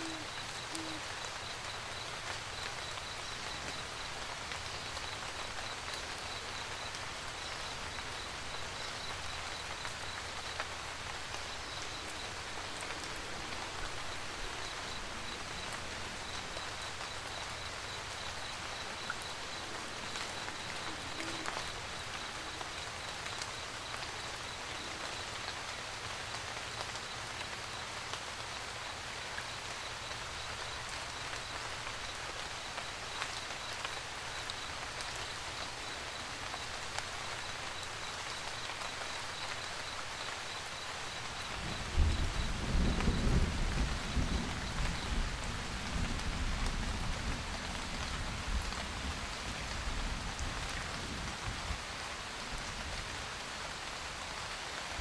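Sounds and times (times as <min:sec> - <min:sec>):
raindrops ticking: 0:00.0 - 0:49.4
rain pattering on a van roof: 0:00.0 - 0:55.0.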